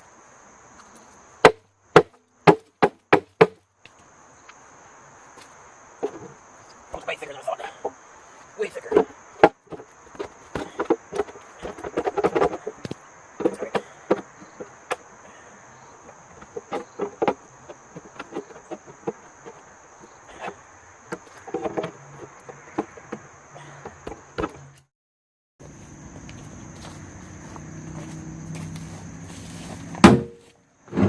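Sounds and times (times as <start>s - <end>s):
insects chirring: 0.0s - 24.9s, 25.6s - 31.0s.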